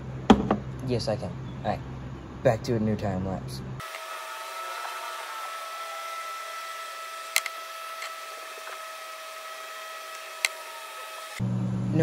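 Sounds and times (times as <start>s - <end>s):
fan hum with high whine: 0.0s - 12.0s.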